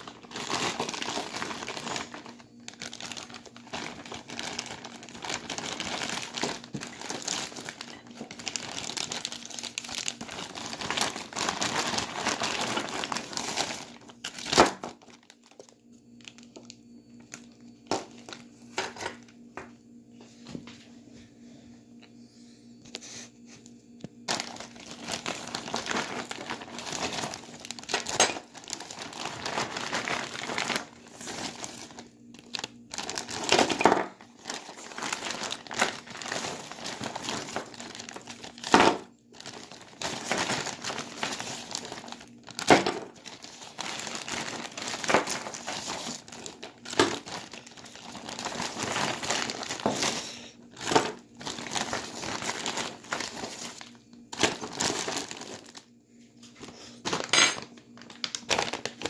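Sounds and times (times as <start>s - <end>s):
plastic bags crinkling: 0.0s - 19.3s, 24.2s - 59.0s.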